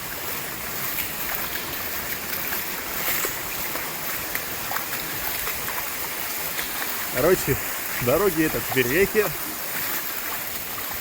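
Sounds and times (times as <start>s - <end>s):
faint splashes: 0.0s - 11.0s
floodwater rushing: 0.0s - 11.0s.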